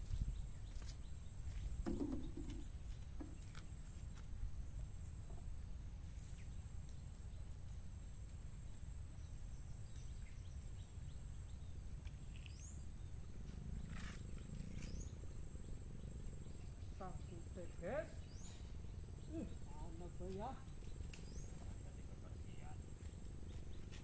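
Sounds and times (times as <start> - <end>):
insect drone: 0.1 - 24.0
low steady rumble: 3.8 - 23.9.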